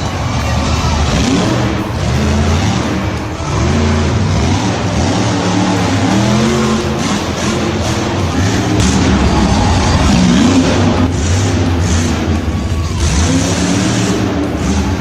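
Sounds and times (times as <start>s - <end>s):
vehicle engines revving: 0.0s - 15.0s.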